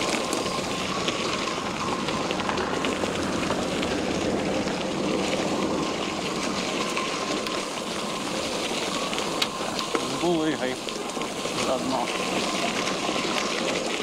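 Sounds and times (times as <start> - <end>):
bicycle tyres crunching on gravel: 0.0 - 14.0
bike rattling: 0.0 - 14.0.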